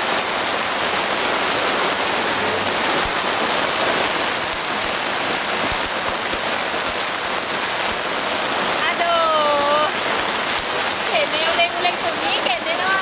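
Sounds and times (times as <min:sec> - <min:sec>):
heavy rain on roofs and pavement: 0:00.0 - 0:13.0.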